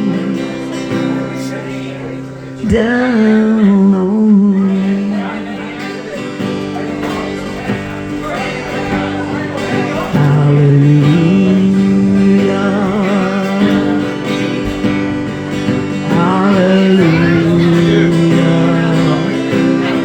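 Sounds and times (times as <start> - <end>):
person singing: 0.0 - 20.0
worship song with acoustic guitar: 0.0 - 20.0.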